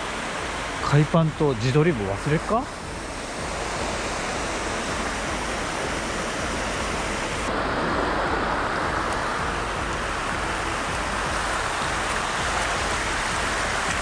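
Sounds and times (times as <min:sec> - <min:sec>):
water rushing over rock: 0:00.0 - 0:14.0.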